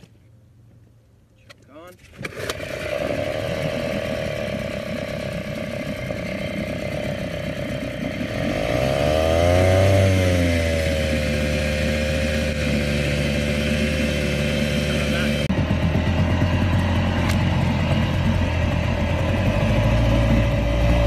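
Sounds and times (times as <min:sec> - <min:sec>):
outboard motor running: 0:02.1 - 0:21.0.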